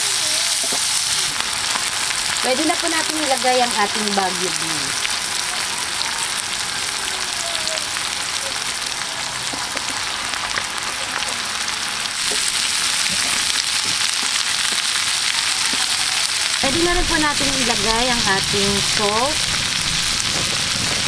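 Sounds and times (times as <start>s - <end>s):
green beans sizzling in oil: 0.0s - 21.0s.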